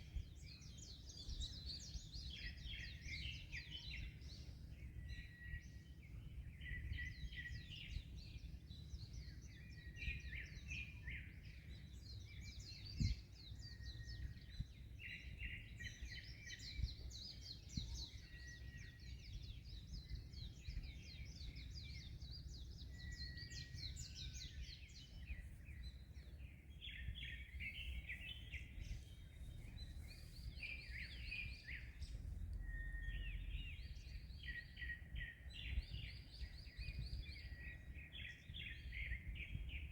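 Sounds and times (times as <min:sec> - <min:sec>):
small birds chirping: 0:00.0 - 0:39.9
wind: 0:00.0 - 0:39.9.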